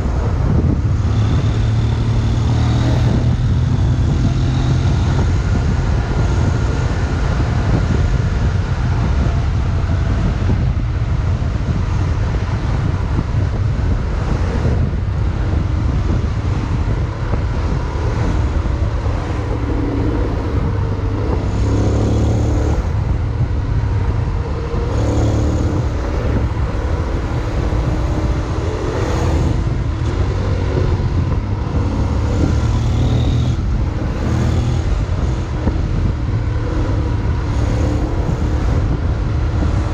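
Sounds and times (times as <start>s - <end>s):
road noise: 0.0s - 39.9s
wind rumble: 0.0s - 39.9s.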